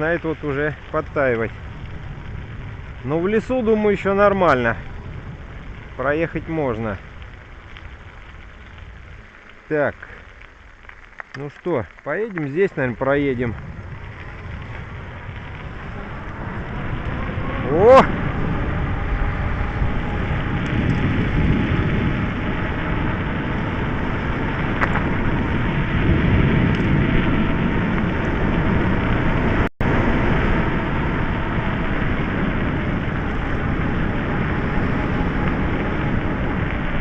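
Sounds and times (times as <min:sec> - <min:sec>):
wind on microphone: 0:00.0 - 0:09.6, 0:12.2 - 0:37.0
tyres on crusted snow: 0:00.0 - 0:37.0.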